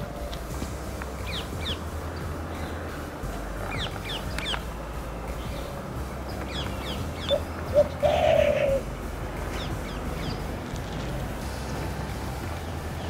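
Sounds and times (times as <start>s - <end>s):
dove cooing: 0.0s - 13.0s
small birds chirping: 0.0s - 13.0s.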